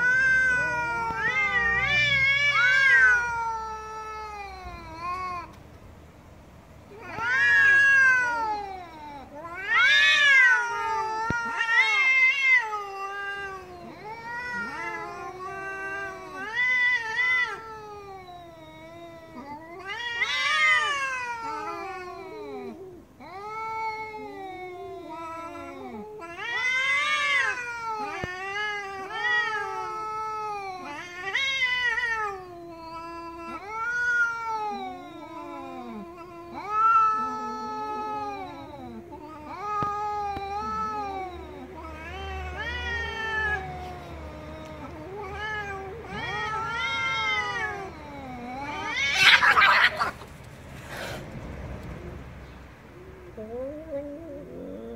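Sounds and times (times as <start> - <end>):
cats yowling: 0.0 - 5.6, 6.8 - 54.9.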